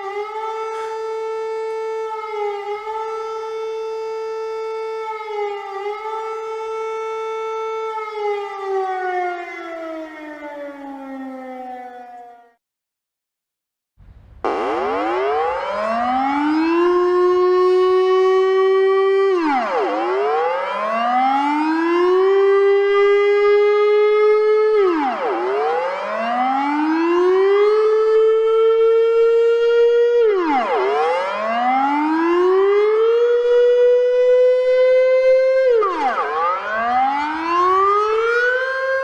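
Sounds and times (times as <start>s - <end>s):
warning siren wailing: 0.0s - 12.6s, 14.4s - 39.0s.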